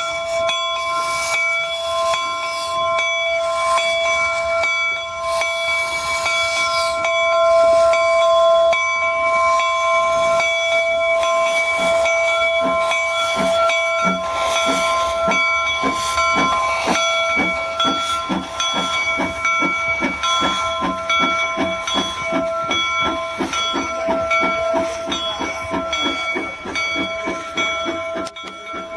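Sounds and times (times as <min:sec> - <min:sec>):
locomotive bell ringing: 0:00.0 - 0:28.9
steam locomotive chuffing: 0:00.0 - 0:28.9
steam hissing: 0:00.1 - 0:28.9.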